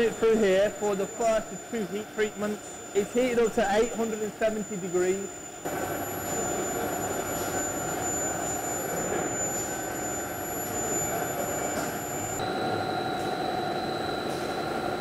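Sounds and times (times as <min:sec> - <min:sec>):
factory machine noise: 0:00.0 - 0:15.0
high-pitched machine whines: 0:00.0 - 0:15.0.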